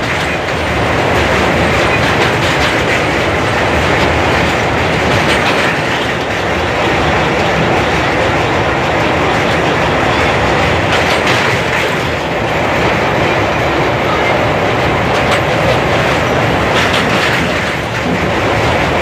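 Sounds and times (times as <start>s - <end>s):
sharp wheel clacks: 0.0s - 12.3s, 15.1s - 19.0s
train wheels rumbling on rails: 0.0s - 19.0s.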